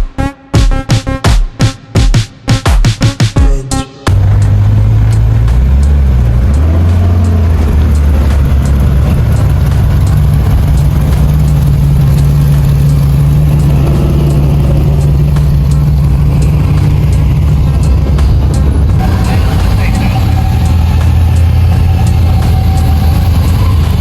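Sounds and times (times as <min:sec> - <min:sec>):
car engine running: 0:04.1 - 0:24.0.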